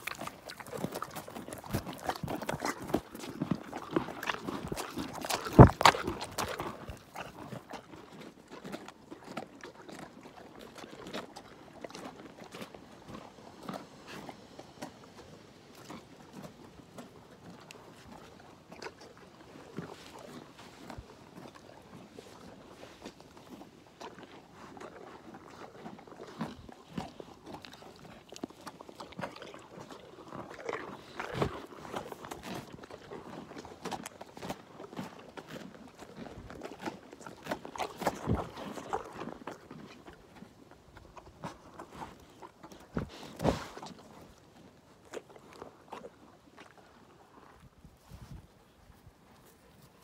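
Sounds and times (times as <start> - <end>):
animal crunching carrots: 0.0 - 48.3.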